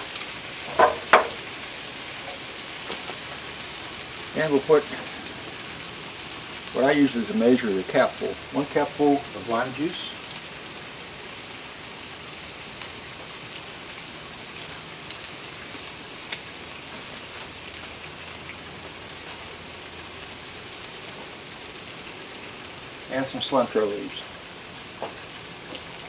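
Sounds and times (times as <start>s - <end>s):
food sizzling on griddle: 0.0s - 26.0s.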